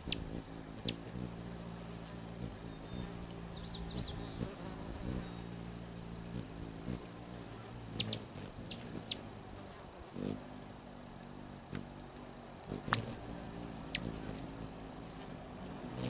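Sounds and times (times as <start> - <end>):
hummingbird wings buzzing: 0.0 - 16.0.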